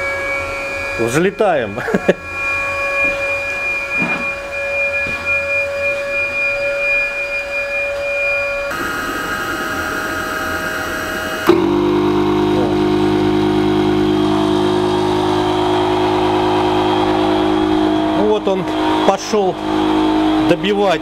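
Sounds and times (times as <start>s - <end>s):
deep steady pump hum: 0.0s - 21.0s
electric pump running: 0.0s - 21.0s.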